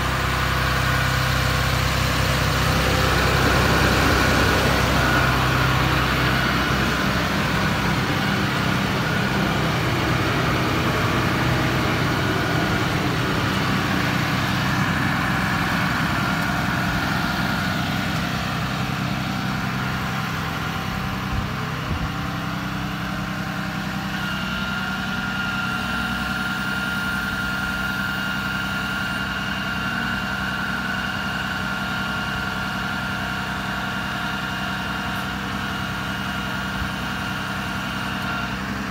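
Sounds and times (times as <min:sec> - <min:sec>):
diesel engine idling: 0:00.0 - 0:38.9
steady high whine: 0:00.0 - 0:38.9.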